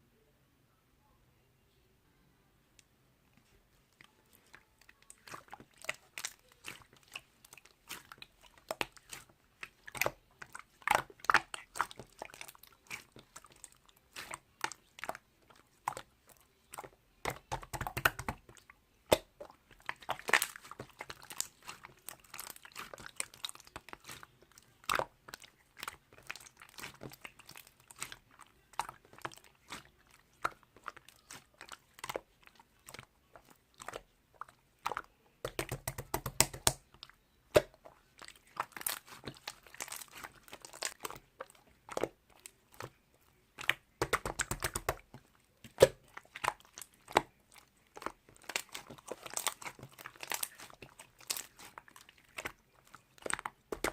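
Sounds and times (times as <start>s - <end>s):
slime squelching: 3.4s - 53.9s
slime crackling and popping: 4.4s - 53.9s.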